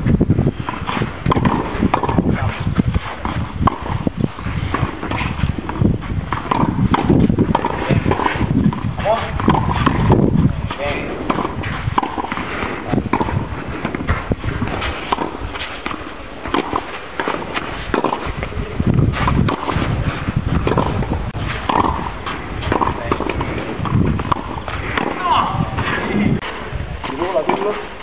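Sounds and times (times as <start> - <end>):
low rumble: 0.0 - 16.6, 17.9 - 27.1
rackets striking tennis ball: 0.5 - 28.0.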